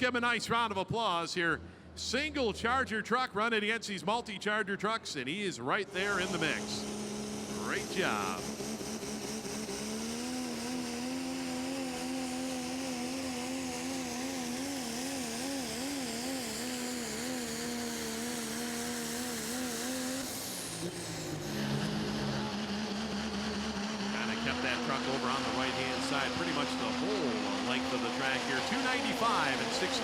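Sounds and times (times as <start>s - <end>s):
engine running at high speed: 5.7s - 30.0s.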